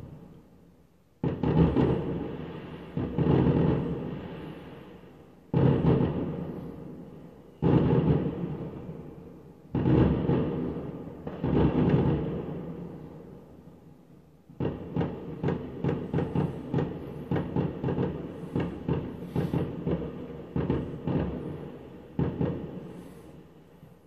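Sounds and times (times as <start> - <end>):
firework bangs: 1.2 - 13.6, 14.5 - 24.0
firework crackling: 1.2 - 13.7, 14.5 - 24.0.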